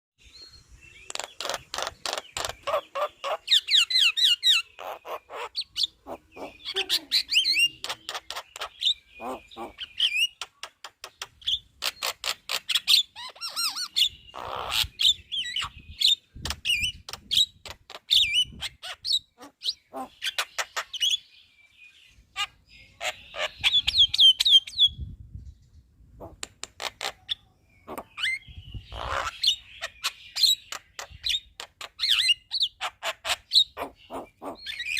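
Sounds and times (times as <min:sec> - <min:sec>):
myna bird chattering song: 0:00.4 - 0:34.9.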